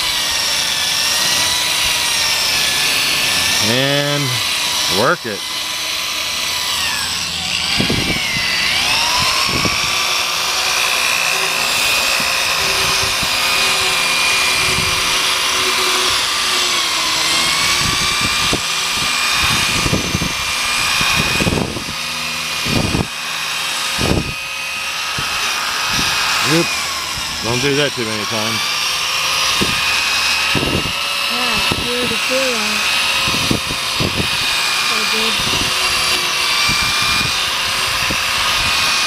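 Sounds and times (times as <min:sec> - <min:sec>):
electric drill sanding plastic: 0:00.0 - 0:39.0.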